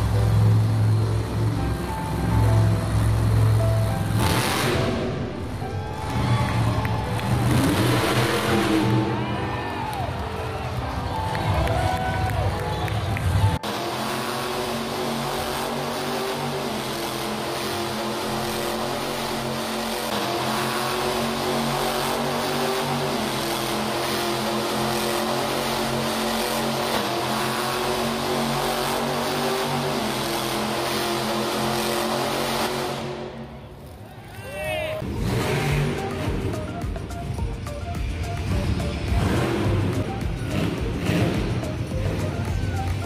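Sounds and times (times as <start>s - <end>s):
truck engine at high revs: 0.0s - 11.2s, 13.0s - 34.0s, 35.0s - 43.0s.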